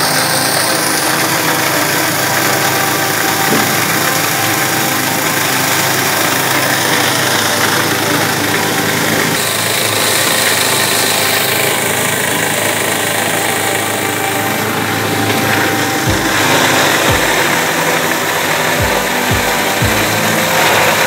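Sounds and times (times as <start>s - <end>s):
food waste grinder shredding: 0.0s - 21.0s.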